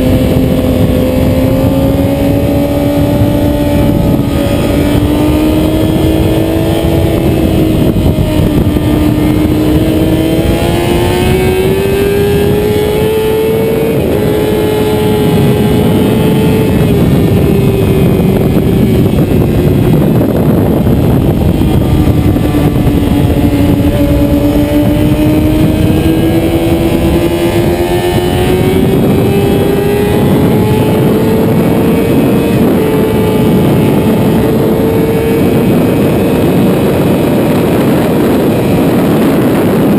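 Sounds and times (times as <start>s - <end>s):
motorcycle engine at high revs: 0.0s - 39.9s
steady rushing noise: 0.0s - 39.9s.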